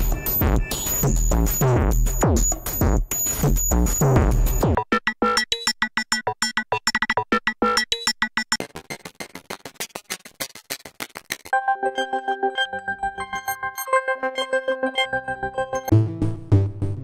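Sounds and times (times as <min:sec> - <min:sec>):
electronic music loops: 0:00.0 - 0:15.9.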